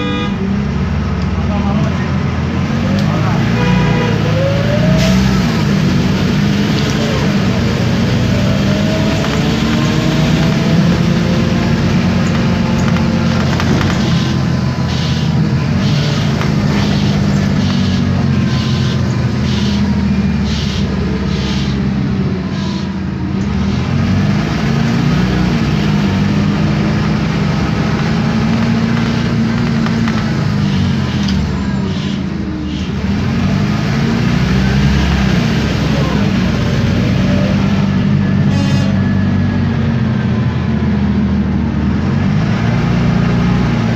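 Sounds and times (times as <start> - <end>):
bus diesel engine running: 0.0 - 43.9.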